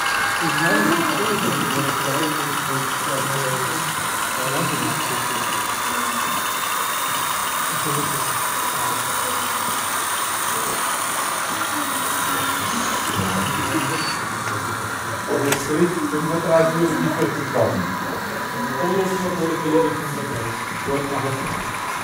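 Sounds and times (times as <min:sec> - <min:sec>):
chatter of many voices: 0:00.0 - 0:22.0.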